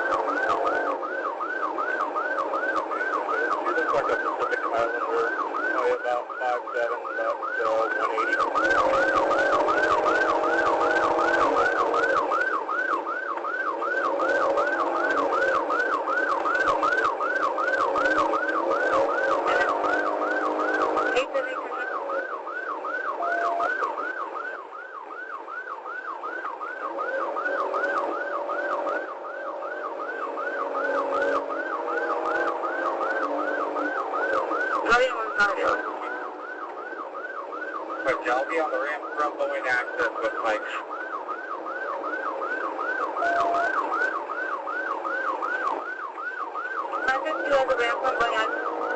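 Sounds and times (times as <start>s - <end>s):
police siren yelp: 0.0s - 48.9s.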